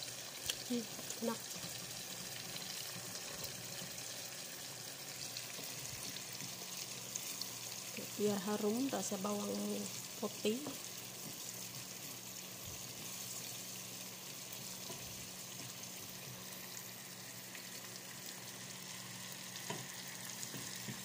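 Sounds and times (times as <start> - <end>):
paste sizzling in frying pan: 0.0 - 21.0.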